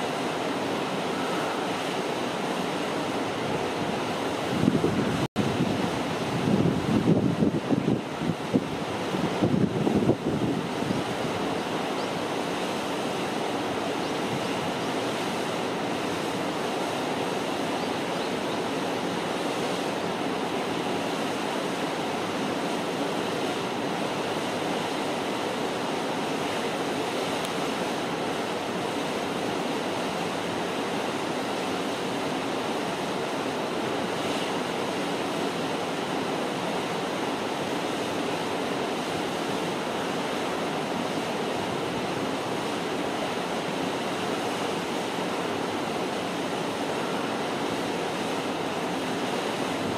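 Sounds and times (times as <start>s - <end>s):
rushing water: 0.0s - 49.9s.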